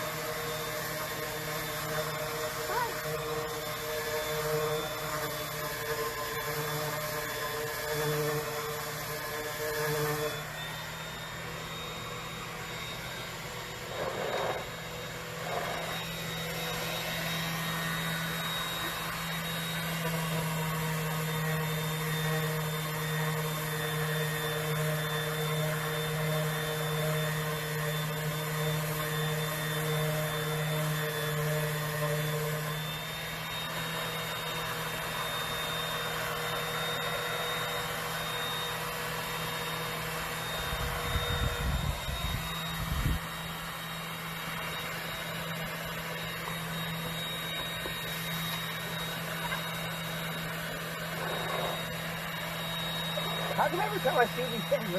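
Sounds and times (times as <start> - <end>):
electric sander on wood: 0.0 - 54.9.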